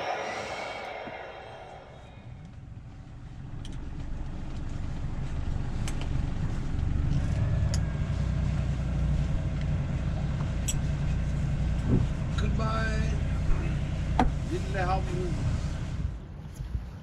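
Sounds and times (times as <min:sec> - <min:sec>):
diesel engine rumbling: 0:00.0 - 0:16.4.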